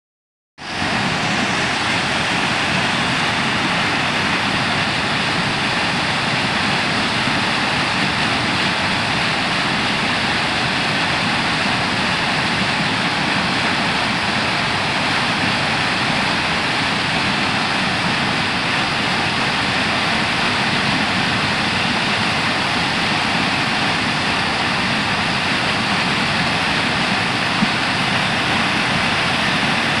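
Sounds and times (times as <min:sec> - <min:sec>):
water rushing over weir: 0:00.6 - 0:30.0.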